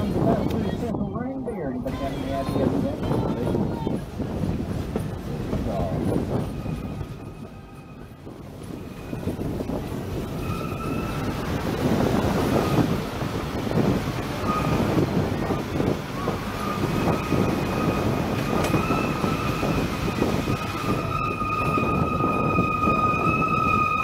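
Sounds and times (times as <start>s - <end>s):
train car rumble and clatter: 0.0s - 24.0s.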